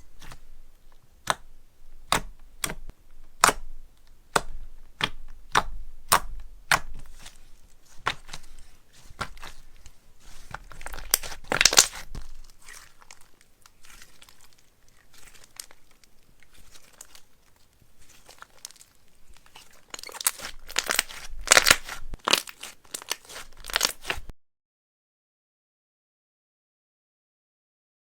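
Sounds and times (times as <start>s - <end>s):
slime squished by hand: 1.2s - 24.3s.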